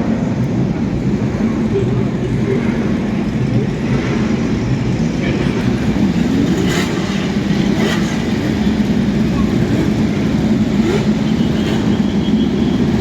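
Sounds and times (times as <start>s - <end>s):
racing car engines rumbling: 0.0s - 13.0s.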